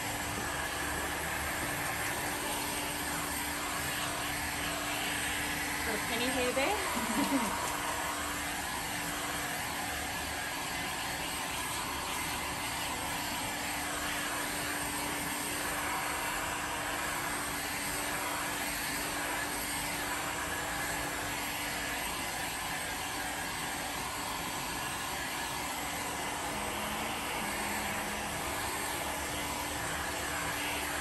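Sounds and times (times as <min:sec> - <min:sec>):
heat gun blowing air: 0:00.0 - 0:31.0.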